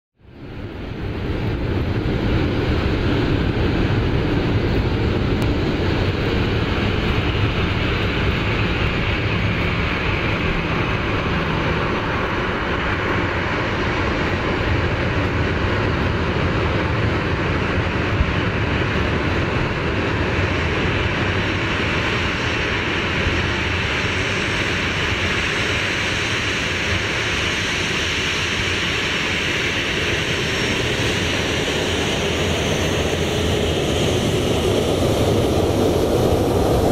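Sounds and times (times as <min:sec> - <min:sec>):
jet engines at taxi power: 0:00.2 - 0:36.9.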